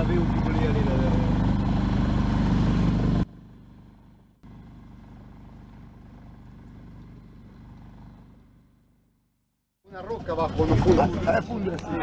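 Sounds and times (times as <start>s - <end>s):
boat engine droning: 0.0s - 9.2s, 9.9s - 12.0s.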